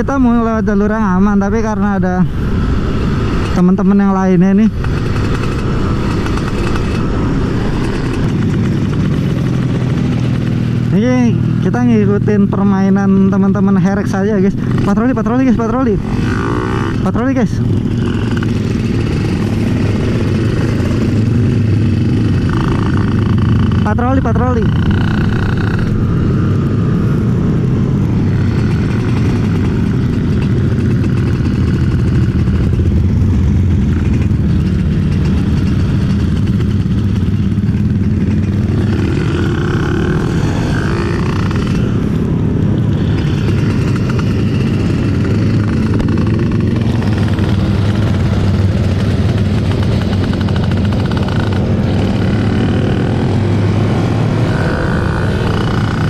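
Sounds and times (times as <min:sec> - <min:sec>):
two-stroke motorcycle engine: 0:00.0 - 0:56.0.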